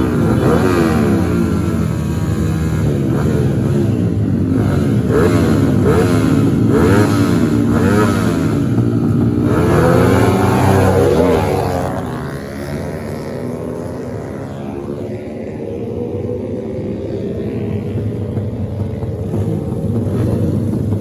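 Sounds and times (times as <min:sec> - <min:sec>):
racing motorcycle engines revving: 0:00.0 - 0:21.0.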